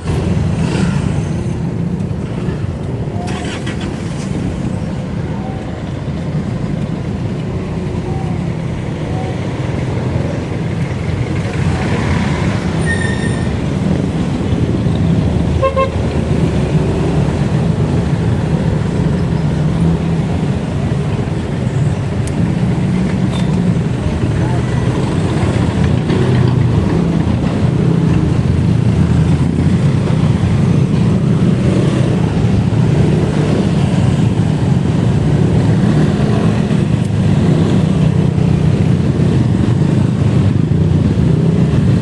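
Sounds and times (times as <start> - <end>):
wind and road rumble: 0.0 - 42.0.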